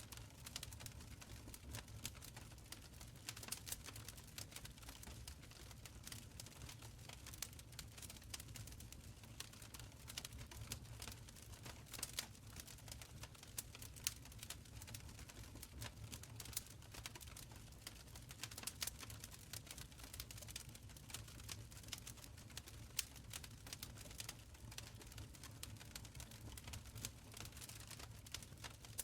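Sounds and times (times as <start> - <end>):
low rumble of burning: 0.0 - 29.0
wood fire crackling: 0.0 - 29.0.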